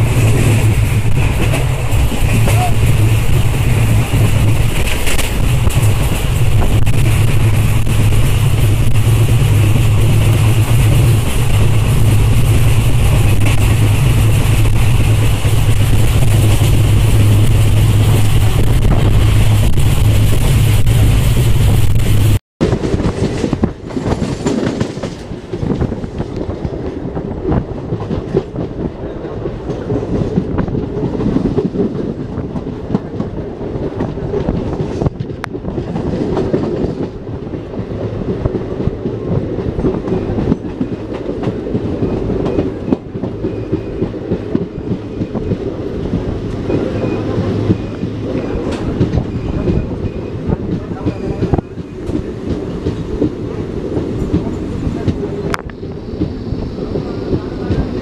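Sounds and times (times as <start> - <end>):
train rush with deep hum: 0.0 - 58.0
train wheels clickety-clack: 0.0 - 58.0.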